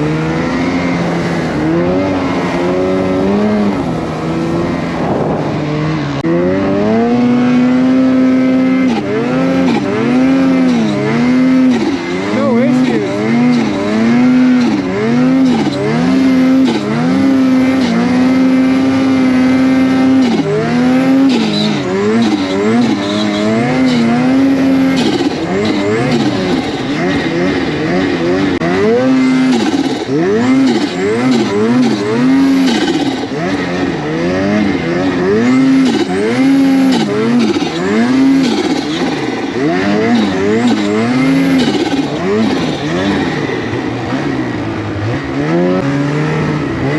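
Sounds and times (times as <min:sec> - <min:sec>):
snowmobile engine revving: 0:00.0 - 0:46.9.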